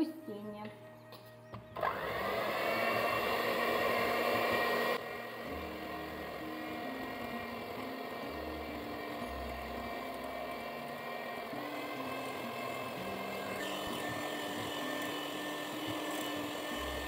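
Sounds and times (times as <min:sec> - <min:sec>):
electric hand mixer whine: 0:01.7 - 0:17.0.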